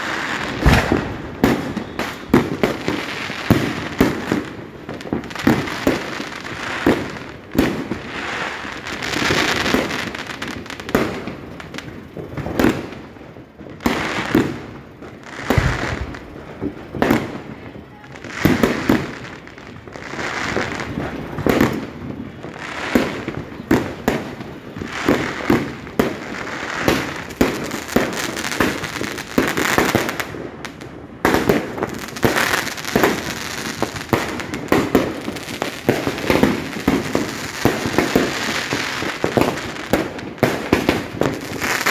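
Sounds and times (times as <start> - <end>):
fireworks bangs and crackling pops: 0.0 - 41.9.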